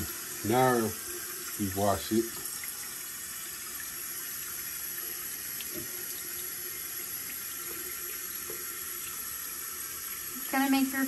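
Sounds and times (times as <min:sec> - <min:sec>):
faucet running into sink: 0:00.0 - 0:11.0.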